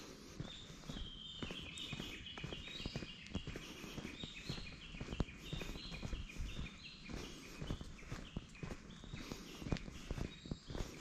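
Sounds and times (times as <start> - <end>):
footsteps walking: 0.0 - 11.0.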